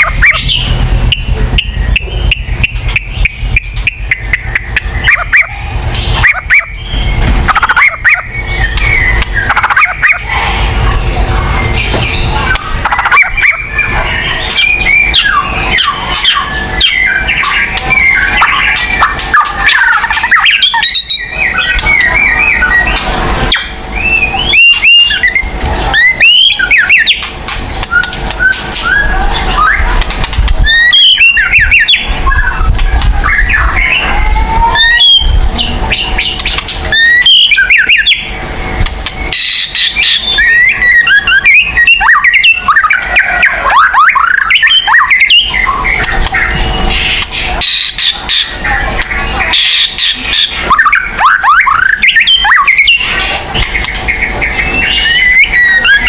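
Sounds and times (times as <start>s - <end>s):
bird singing: 0.0s - 56.0s
steady low hum: 0.0s - 56.0s.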